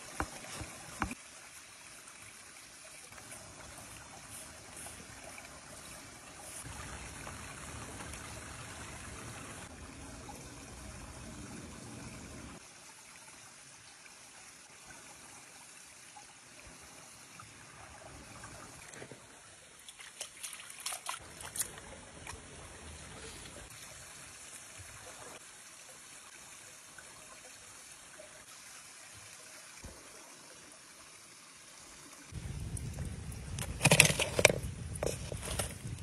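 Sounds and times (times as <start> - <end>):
stream trickling: 0.0 - 36.0.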